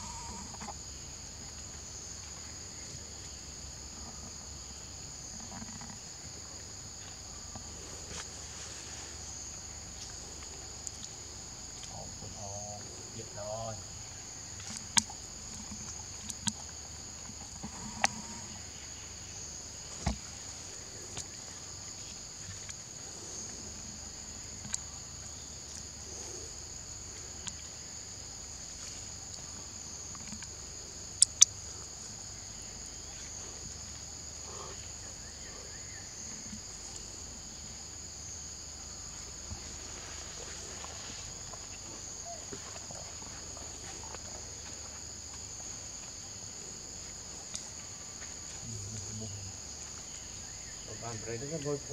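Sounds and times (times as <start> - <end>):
insect chorus buzzing: 0.0 - 51.9.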